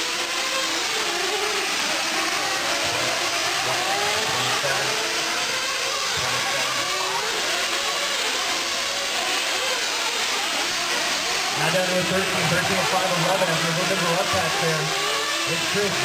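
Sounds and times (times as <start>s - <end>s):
model truck engines buzzing: 0.0s - 16.0s.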